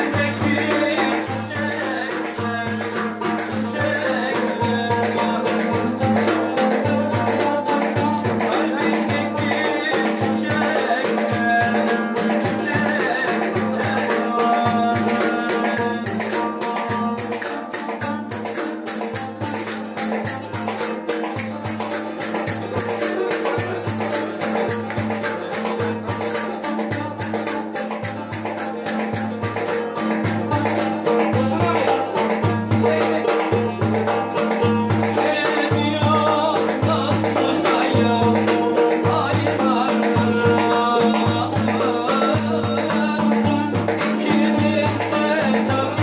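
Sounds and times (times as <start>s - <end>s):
plucked lute fast tune: 0.0s - 46.0s.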